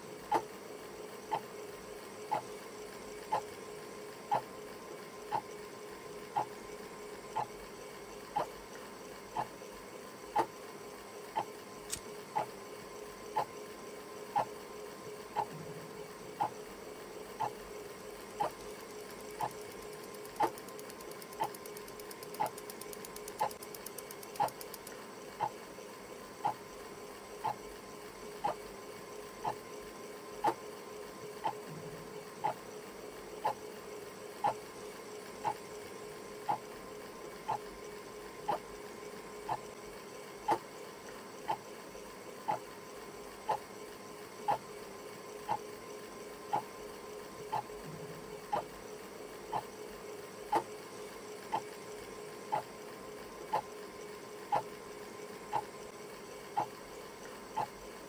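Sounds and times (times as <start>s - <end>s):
faint continuous hum: 0.0s - 58.0s.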